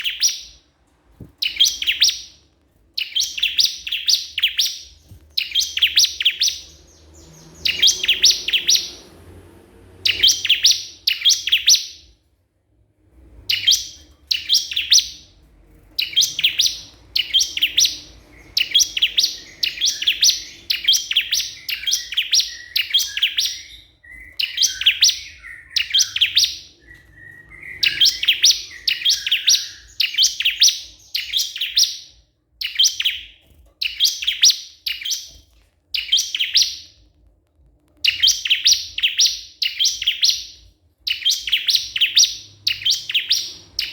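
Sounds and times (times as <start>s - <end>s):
songbird chirping: 0.0s - 12.2s, 13.1s - 37.2s, 37.8s - 43.9s.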